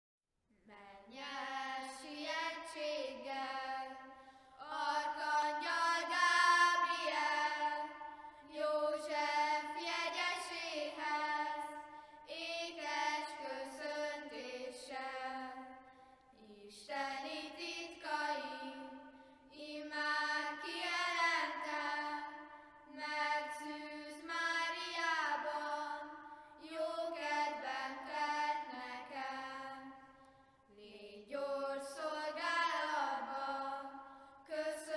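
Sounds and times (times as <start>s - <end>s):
children singing unaccompanied: 0.7s - 15.8s, 16.4s - 30.0s, 30.8s - 34.9s.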